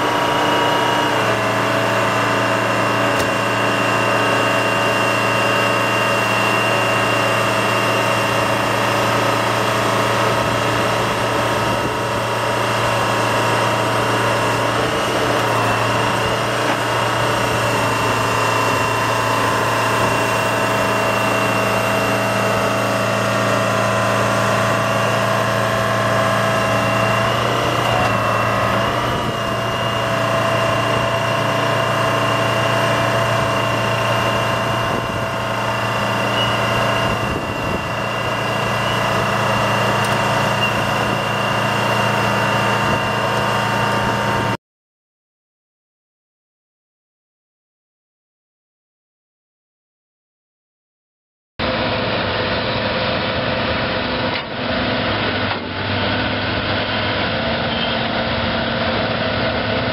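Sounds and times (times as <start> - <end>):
excavator engine running: 0.0 - 44.6, 51.6 - 59.9.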